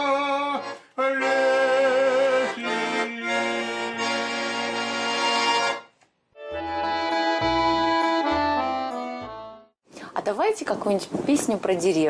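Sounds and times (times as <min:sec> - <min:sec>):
accordion playing chords: 0:00.0 - 0:09.8.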